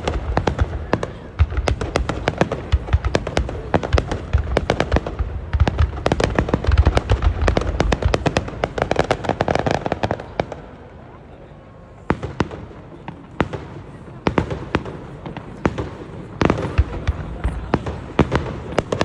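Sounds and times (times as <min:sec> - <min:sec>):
deep fireworks booms: 0:00.0 - 0:10.8, 0:12.0 - 0:19.0
fireworks bangs and crackles: 0:00.0 - 0:19.0.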